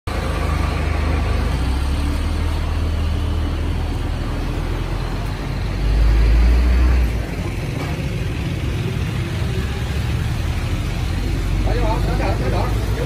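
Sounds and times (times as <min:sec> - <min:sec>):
street traffic: 0:00.0 - 0:13.0
vehicle engine humming: 0:00.1 - 0:13.0.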